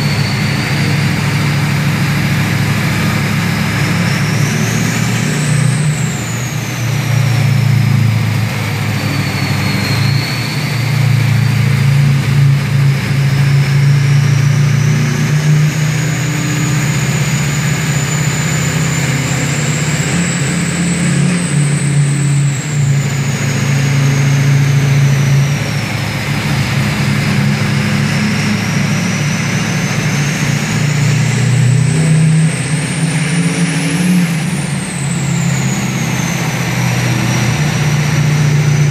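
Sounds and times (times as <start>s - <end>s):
diesel engine running under load: 0.0s - 38.9s
turbocharger whistle: 0.0s - 38.9s.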